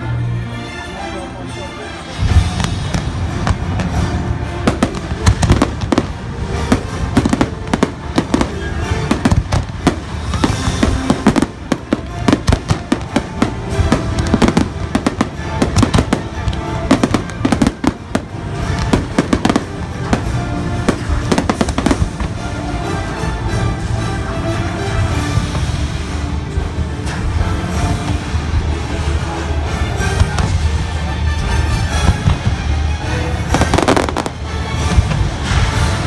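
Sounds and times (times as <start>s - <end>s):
orchestral music over loudspeakers: 0.0s - 36.0s
fireworks bangs and crackles: 2.1s - 36.0s.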